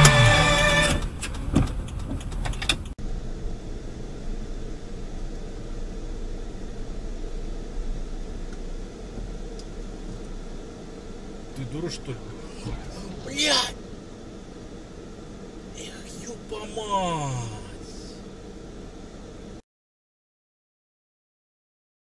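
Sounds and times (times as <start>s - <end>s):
car engine and road noise: 0.0s - 19.6s.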